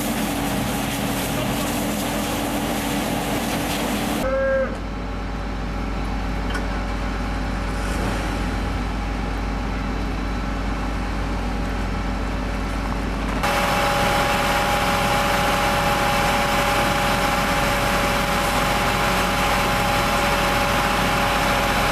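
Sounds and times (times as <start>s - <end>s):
fire engine idling: 0.0s - 4.2s, 4.8s - 21.9s.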